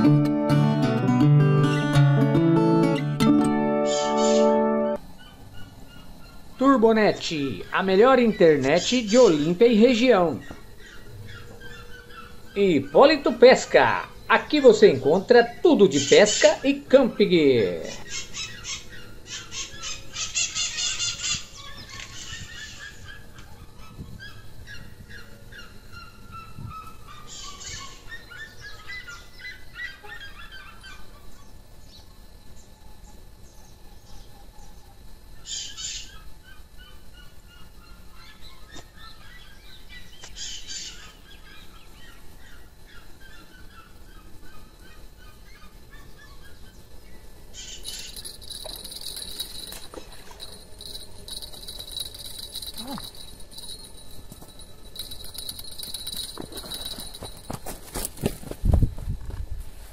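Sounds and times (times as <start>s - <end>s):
birds calling: 3.8s - 31.6s, 35.4s - 58.3s.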